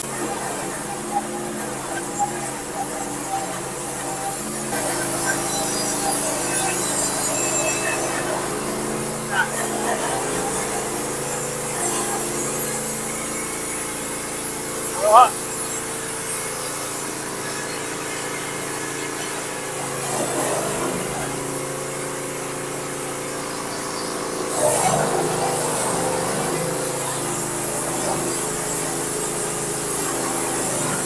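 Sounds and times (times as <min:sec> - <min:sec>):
bandsaw sawmill cutting log: 0:00.0 - 0:31.0.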